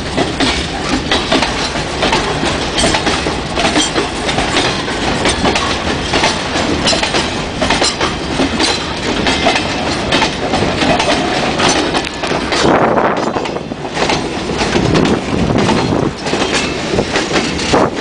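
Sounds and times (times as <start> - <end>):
steady train rumble: 0.0 - 18.0
train wheels clattering over rail joints: 0.0 - 18.0
clanks and knocks: 0.1 - 18.0.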